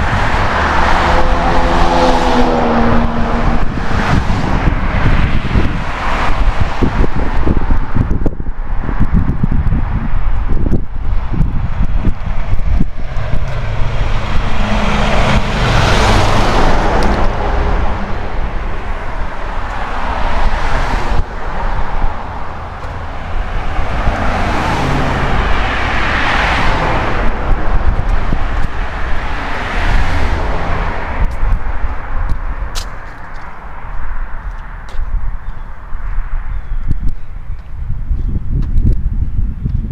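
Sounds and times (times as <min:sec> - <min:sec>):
cars passing: 0:00.0 - 0:39.8
constant low traffic rumble: 0:00.0 - 0:39.9.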